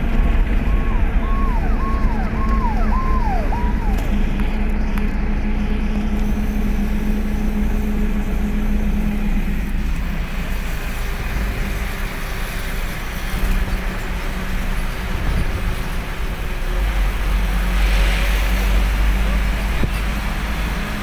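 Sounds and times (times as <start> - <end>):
road and wind roar: 0.0 - 21.0
vehicle engine hum: 0.0 - 21.0.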